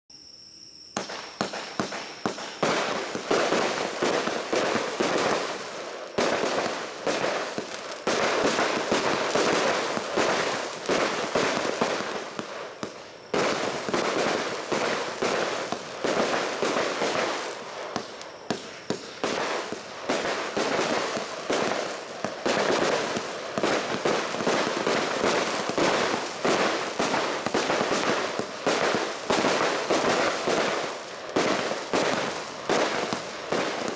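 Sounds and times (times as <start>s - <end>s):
fireworks bursting and crackling: 0.8s - 33.9s.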